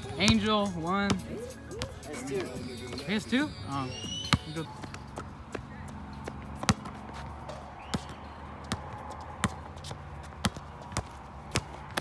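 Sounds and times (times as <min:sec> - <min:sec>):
basketball bouncing on concrete: 0:00.0 - 0:03.2, 0:03.9 - 0:12.0.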